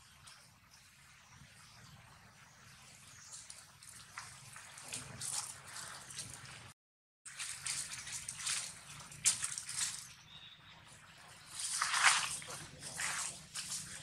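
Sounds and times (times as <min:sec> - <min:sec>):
rustle of leaves and twigs: 0:00.0 - 0:14.0.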